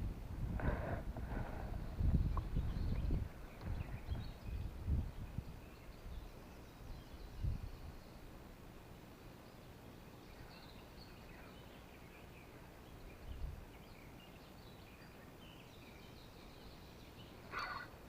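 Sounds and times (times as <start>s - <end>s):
faint birdsong: 0.0s - 18.0s.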